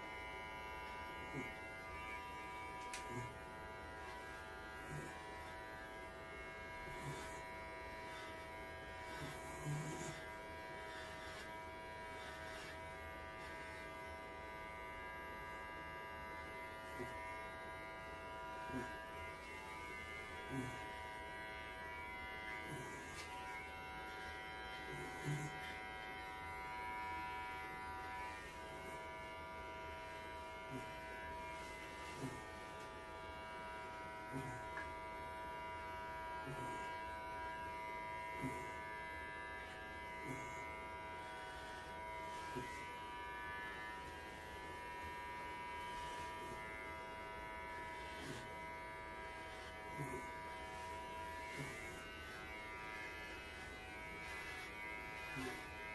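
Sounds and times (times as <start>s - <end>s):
electric hair clippers buzzing: 0.0s - 55.9s.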